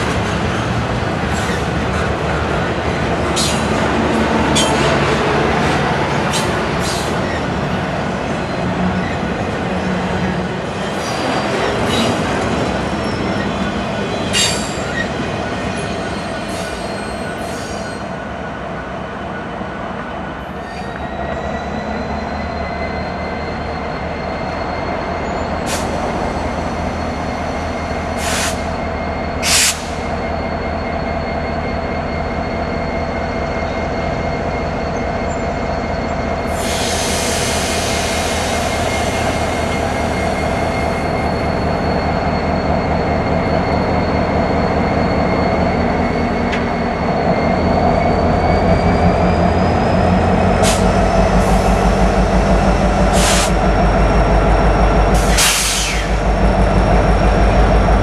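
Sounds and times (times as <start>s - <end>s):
locomotive engines rumbling: 0.0s - 58.0s.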